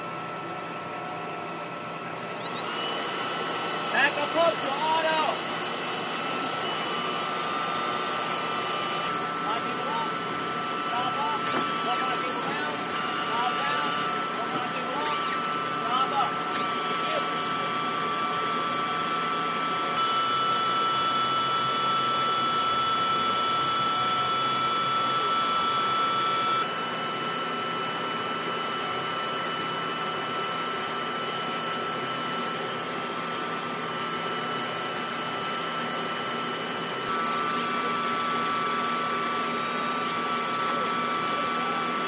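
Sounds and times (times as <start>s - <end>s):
high-pitched turbine whine: 0.0s - 42.0s.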